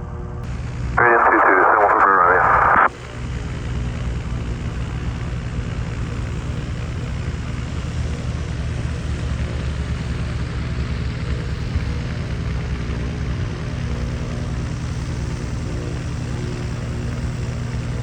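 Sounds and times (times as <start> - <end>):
propeller airplane engine humming: 0.0 - 18.0.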